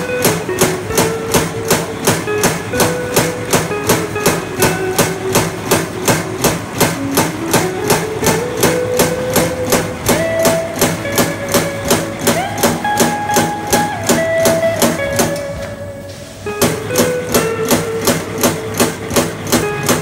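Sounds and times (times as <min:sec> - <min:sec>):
music with quick beat: 0:00.0 - 0:15.8, 0:16.5 - 0:20.0.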